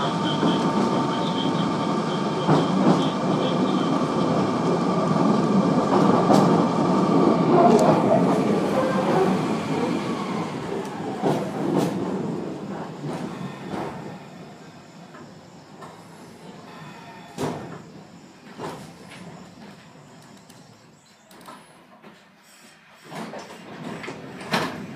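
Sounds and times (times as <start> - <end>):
train rumble: 0.0 - 20.7.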